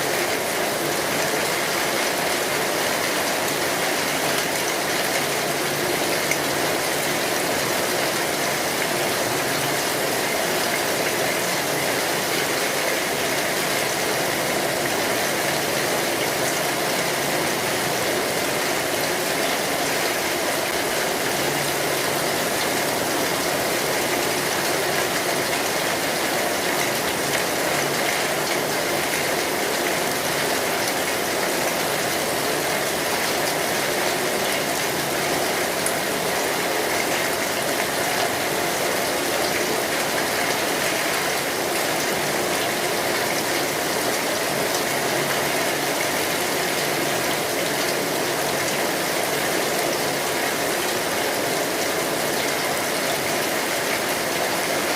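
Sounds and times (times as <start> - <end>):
rain on a metal roof: 0.0 - 54.9.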